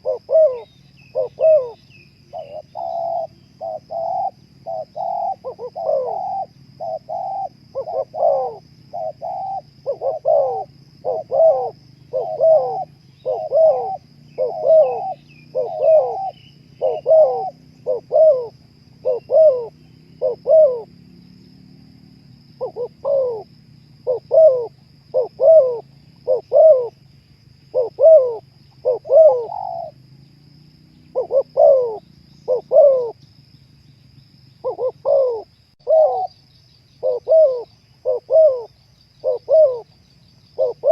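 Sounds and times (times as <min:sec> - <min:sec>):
dove cooing: 0:00.0 - 0:21.0, 0:22.4 - 0:27.0, 0:27.6 - 0:30.0, 0:31.0 - 0:33.2, 0:34.6 - 0:36.4, 0:37.0 - 0:40.9.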